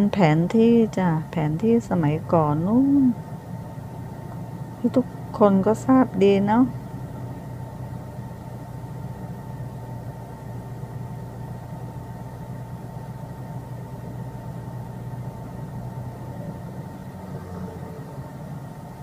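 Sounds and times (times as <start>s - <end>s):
high machine whine: 0.0s - 19.0s
machinery humming: 0.0s - 19.0s.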